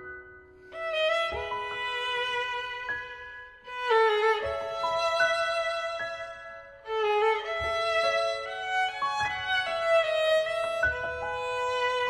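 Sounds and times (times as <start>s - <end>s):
violin playing slow melody: 0.6s - 12.0s.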